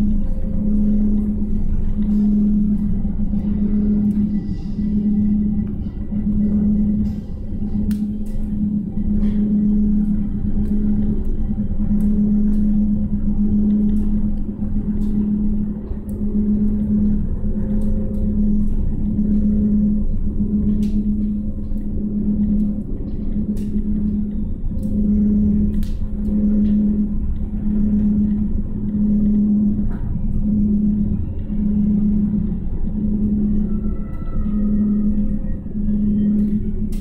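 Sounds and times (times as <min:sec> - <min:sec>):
cable car low rumble: 0:00.0 - 0:37.0
strong hum: 0:00.0 - 0:37.0.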